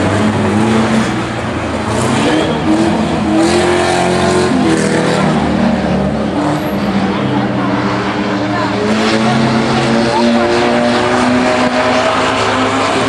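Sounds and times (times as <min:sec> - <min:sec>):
engine revving: 0:00.0 - 0:13.0
race car engines: 0:00.0 - 0:13.0.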